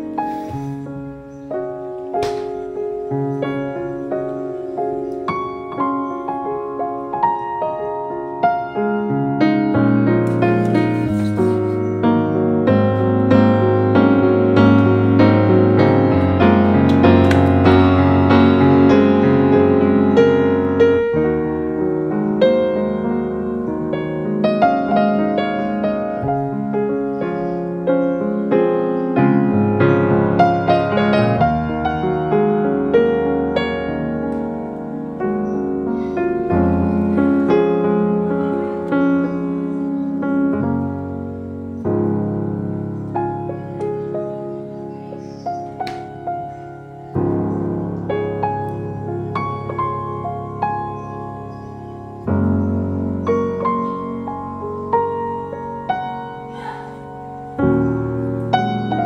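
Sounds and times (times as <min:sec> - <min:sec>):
gentle piano music: 0:00.0 - 0:59.0.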